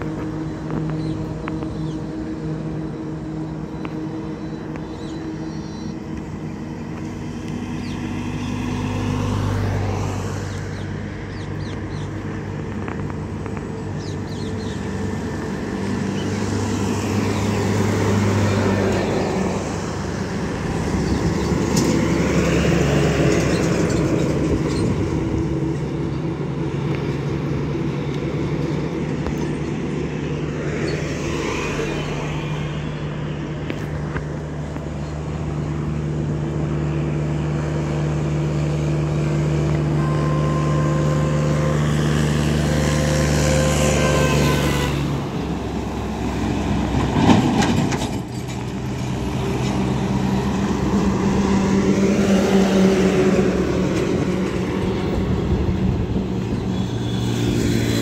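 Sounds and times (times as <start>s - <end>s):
diesel trucks engine drone: 0.0s - 58.0s
tyre and road noise: 0.0s - 58.0s.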